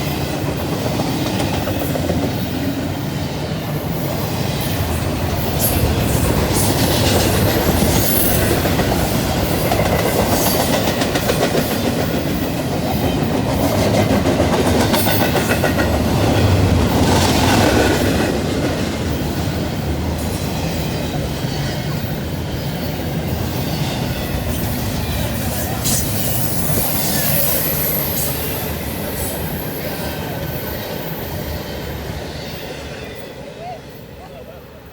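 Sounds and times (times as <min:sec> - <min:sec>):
train wheels clicking over rail joints: 0:03.7 - 0:32.7.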